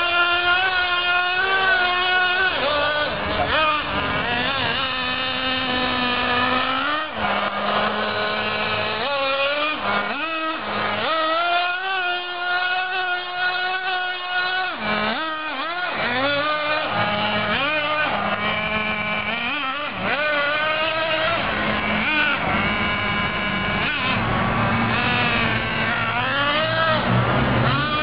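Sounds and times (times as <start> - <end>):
small nitro engine revving: 0.0 - 28.0.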